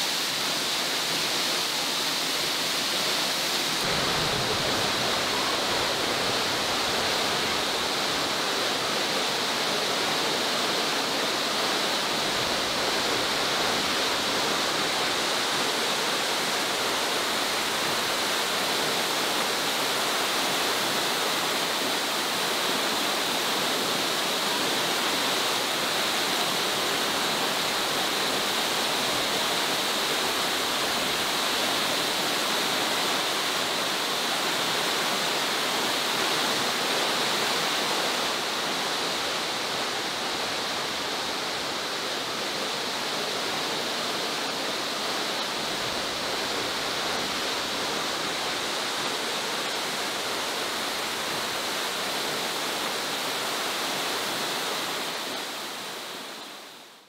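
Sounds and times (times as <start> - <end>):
waterfall pouring and crashing: 0.0 - 57.0.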